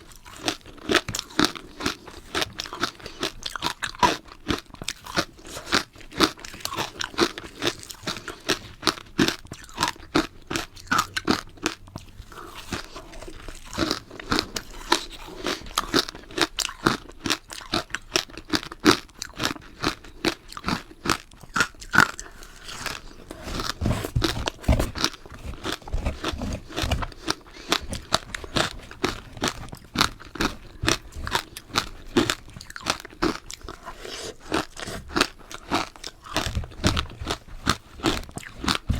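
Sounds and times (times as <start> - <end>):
crunchy ice chewing: 0.0 - 38.9
low chewing thuds: 0.2 - 38.9.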